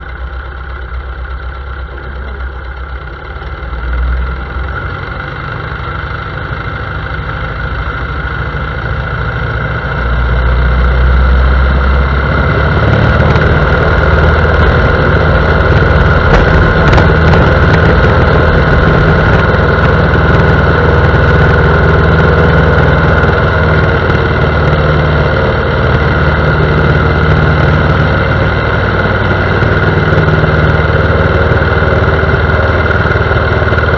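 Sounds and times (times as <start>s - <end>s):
airplane engine and propeller: 0.0s - 33.9s.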